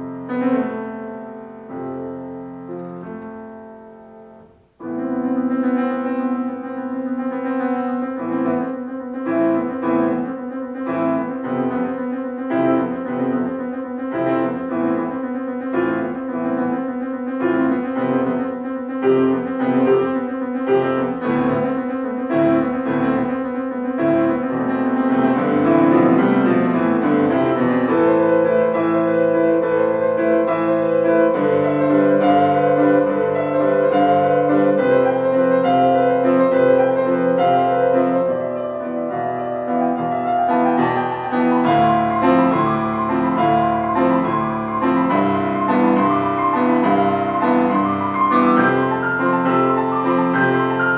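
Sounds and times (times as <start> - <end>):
solo piano melody: 0.0 - 50.9.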